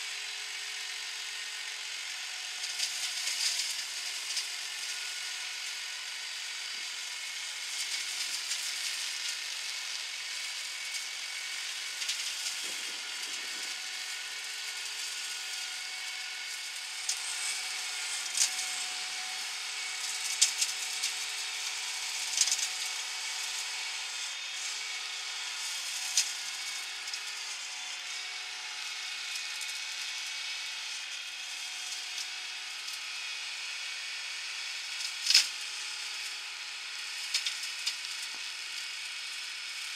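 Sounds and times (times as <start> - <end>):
tractor hedge cutter running: 0.0 - 39.9.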